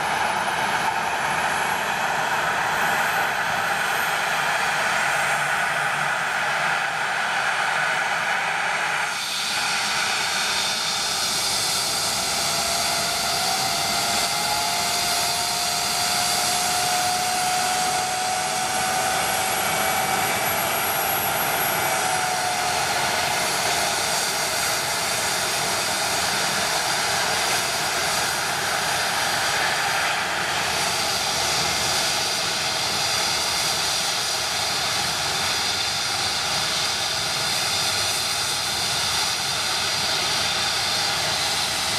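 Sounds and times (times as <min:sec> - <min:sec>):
helicopter turbine engines whining: 0:00.0 - 0:41.9.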